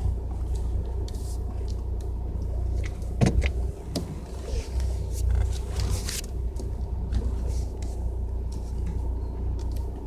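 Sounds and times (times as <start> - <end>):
car engine rumbling: 0.0 - 10.0
engine clicks: 0.0 - 10.0.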